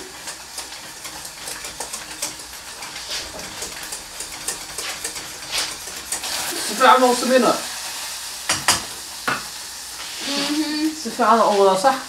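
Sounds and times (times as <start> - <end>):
food sizzling in a pan: 0.0 - 12.0
utensil stirring in pan: 0.0 - 12.0.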